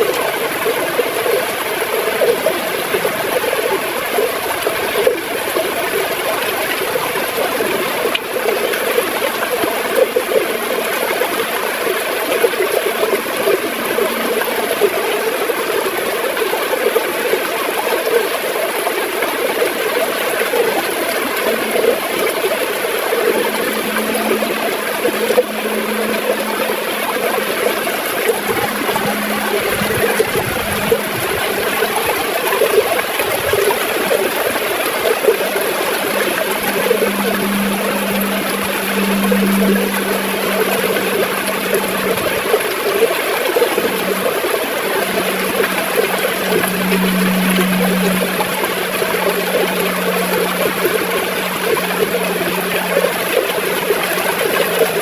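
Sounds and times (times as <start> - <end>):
river water gurgling over rocks: 0.0 - 55.0.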